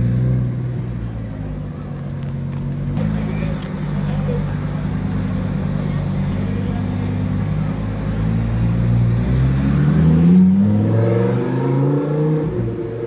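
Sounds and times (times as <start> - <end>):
sports car accelerating: 0.0 - 13.0.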